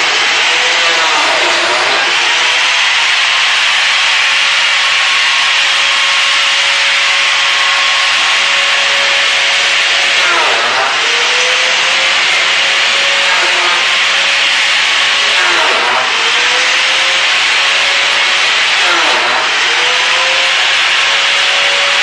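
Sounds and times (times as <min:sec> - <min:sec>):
electric motor whining: 0:00.0 - 0:22.0.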